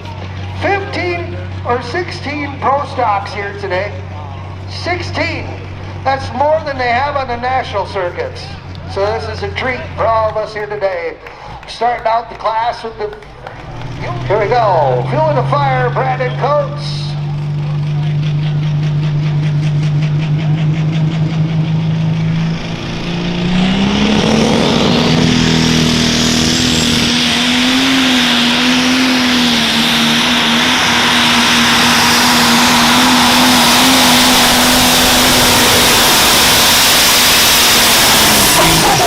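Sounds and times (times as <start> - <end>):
tractor engine revving: 0.0 - 39.0.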